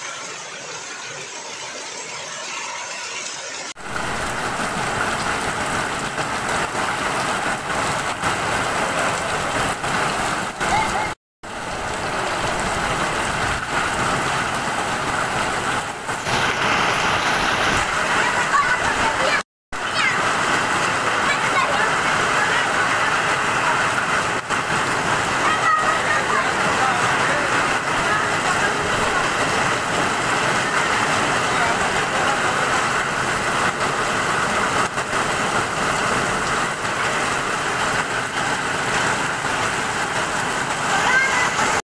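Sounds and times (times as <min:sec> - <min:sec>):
hail on a tile roof: 0:03.8 - 0:41.8.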